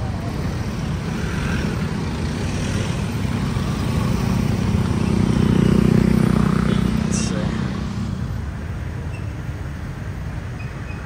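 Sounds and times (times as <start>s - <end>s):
cars and motorcycles passing: 0.0s - 11.0s.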